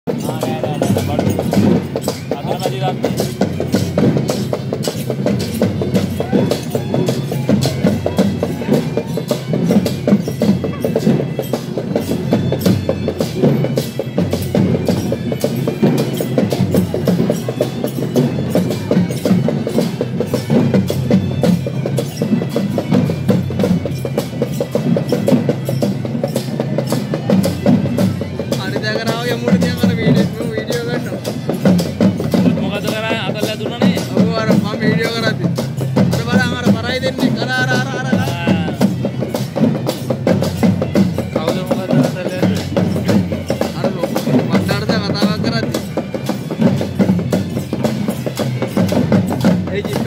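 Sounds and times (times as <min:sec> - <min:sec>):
fast loud procession drumming: 0:00.1 - 0:50.0.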